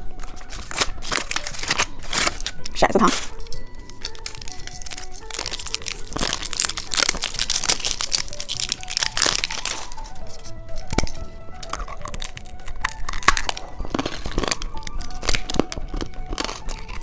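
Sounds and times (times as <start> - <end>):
light background music: 0.0 - 17.0
plastic packaging crinkling: 0.0 - 17.0.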